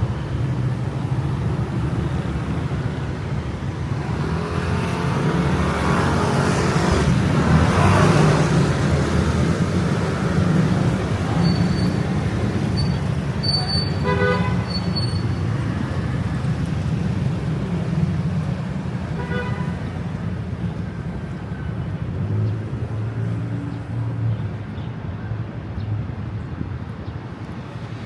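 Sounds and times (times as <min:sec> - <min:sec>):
traffic engines rumbling: 0:00.0 - 0:28.0.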